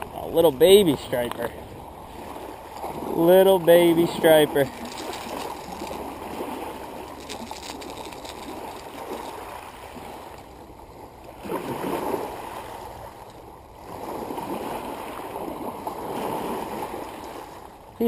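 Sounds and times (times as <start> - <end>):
small waves washing on pebbles: 0.0 - 18.0.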